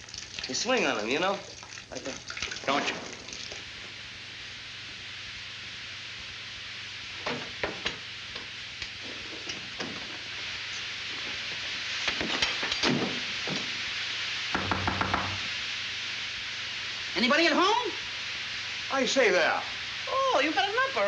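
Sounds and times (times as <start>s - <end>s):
film soundtrack hiss: 0.0s - 21.0s.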